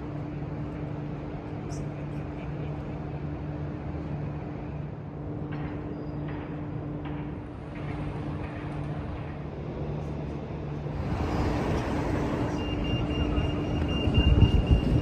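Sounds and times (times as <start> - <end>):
vehicle humming and rumbling: 0.0 - 15.0.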